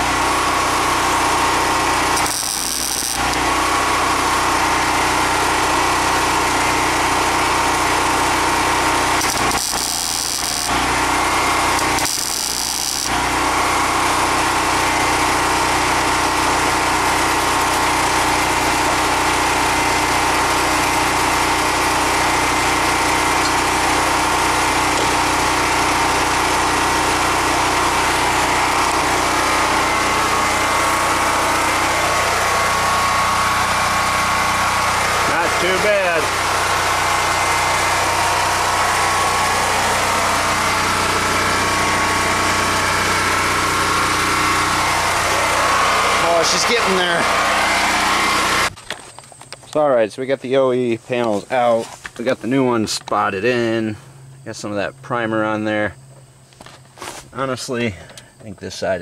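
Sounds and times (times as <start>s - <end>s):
small engine running: 0.0s - 48.8s.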